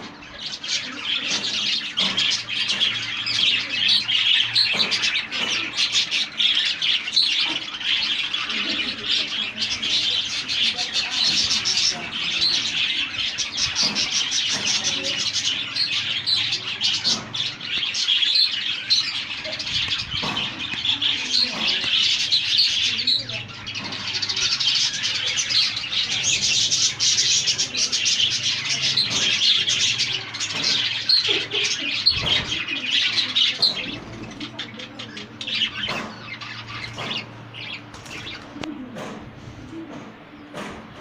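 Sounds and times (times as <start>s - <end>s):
budgerigars chattering and chirping: 0.0s - 38.6s.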